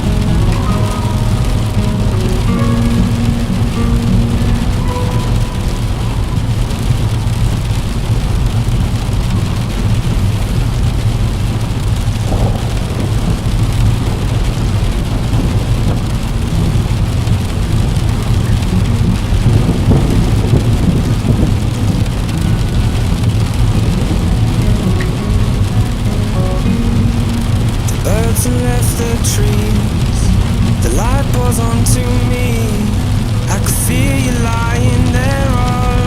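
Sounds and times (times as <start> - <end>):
heavy rain on a window: 0.0 - 36.0
rolling thunder: 0.0 - 36.0.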